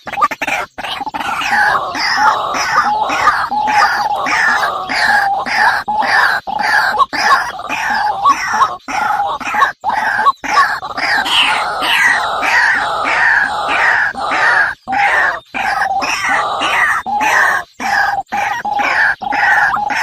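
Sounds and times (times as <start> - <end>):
small birds chirping harshly: 0.0 - 20.0.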